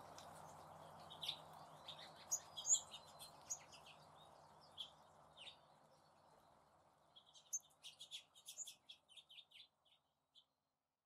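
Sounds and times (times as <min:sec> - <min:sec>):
small songbirds chirping: 0:00.0 - 0:10.7.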